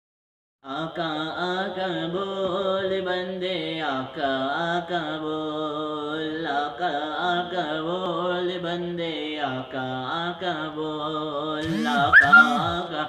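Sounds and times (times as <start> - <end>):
man singing unaccompanied: 0.6 - 13.0.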